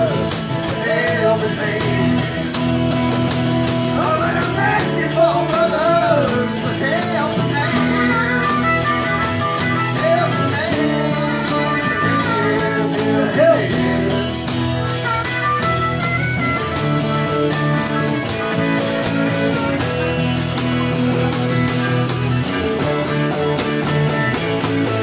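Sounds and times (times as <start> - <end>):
country-rock band playing: 0.0 - 25.0.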